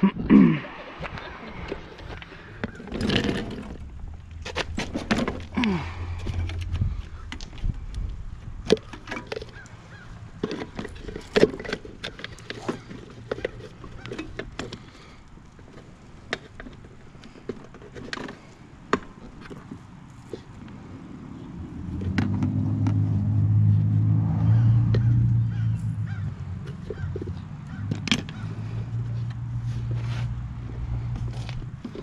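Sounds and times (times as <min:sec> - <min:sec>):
hands working on push mower: 0:00.9 - 0:21.0, 0:21.7 - 0:23.9, 0:24.8 - 0:32.0.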